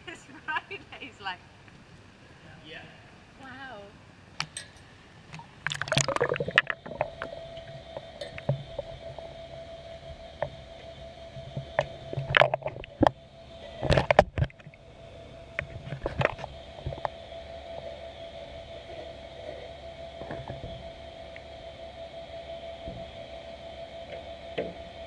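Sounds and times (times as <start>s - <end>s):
steady underwater hum: 0.0s - 25.0s.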